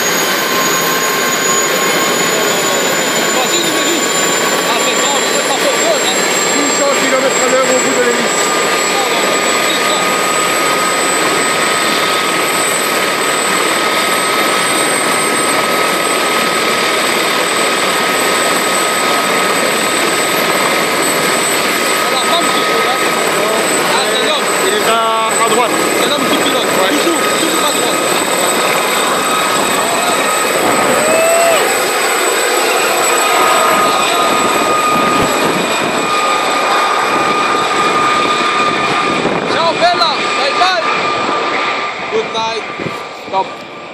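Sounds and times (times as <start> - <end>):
helicopter rotor rushing: 0.0 - 43.9
helicopter turbine whine: 0.0 - 43.9.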